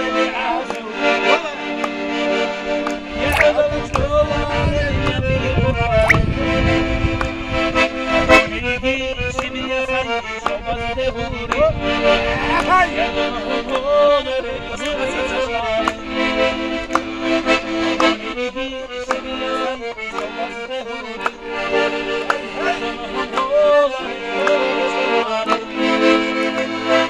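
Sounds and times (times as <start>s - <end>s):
button accordion folk tune: 0.0s - 27.0s.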